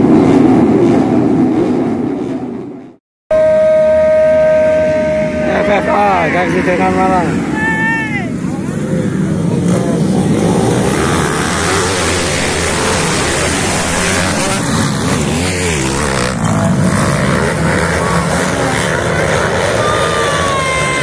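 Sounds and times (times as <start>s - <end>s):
dirt bikes racing: 3.4s - 21.0s.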